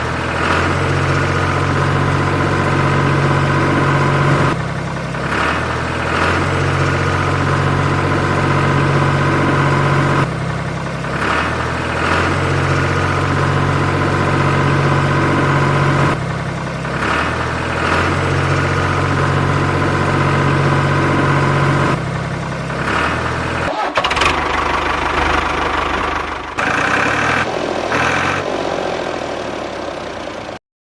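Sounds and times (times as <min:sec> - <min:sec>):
tractor engine idling: 0:00.0 - 0:30.6.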